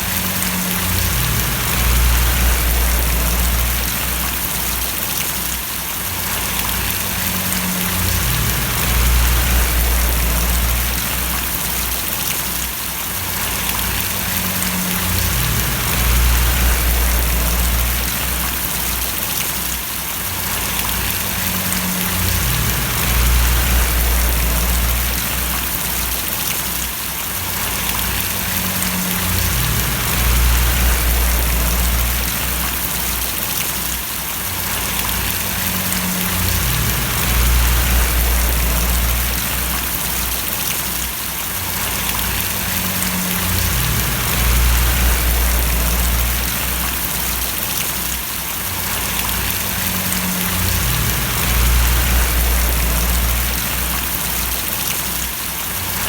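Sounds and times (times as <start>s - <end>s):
low rumble: 0.0s - 4.8s, 6.4s - 12.2s, 13.4s - 19.0s, 20.7s - 26.4s, 27.6s - 33.3s, 34.8s - 40.6s, 41.8s - 47.6s, 48.9s - 54.8s
rain falling and splashing: 0.0s - 56.0s.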